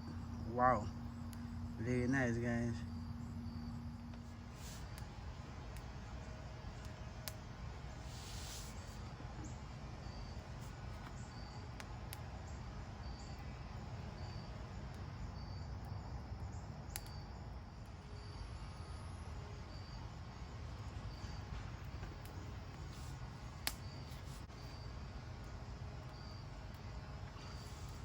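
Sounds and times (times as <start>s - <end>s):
campfire crackling: 0.0s - 28.0s
cricket chirping: 0.0s - 28.0s
steady low rumble: 0.0s - 28.0s.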